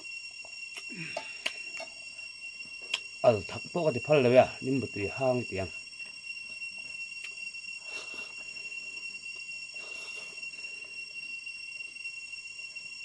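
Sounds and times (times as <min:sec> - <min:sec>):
high-pitched drone: 0:00.0 - 0:13.0.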